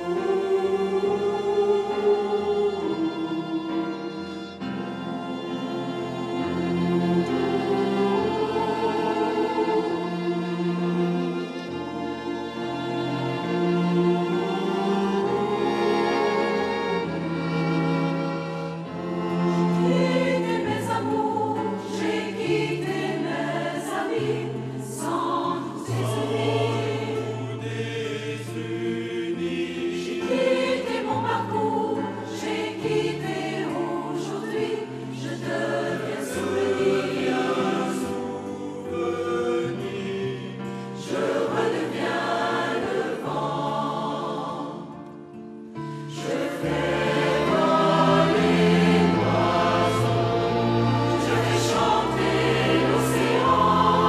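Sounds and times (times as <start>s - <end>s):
instrumental accompaniment: 0.0s - 54.0s
mixed choir singing: 0.0s - 54.0s.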